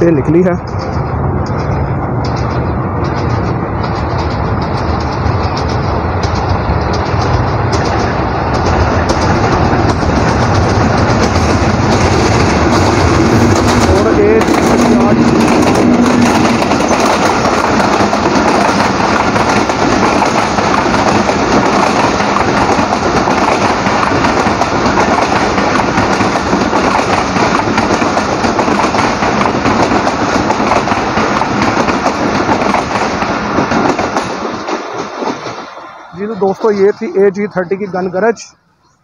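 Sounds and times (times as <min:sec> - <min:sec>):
train wheels clattering on rails: 0:00.0 - 0:37.4.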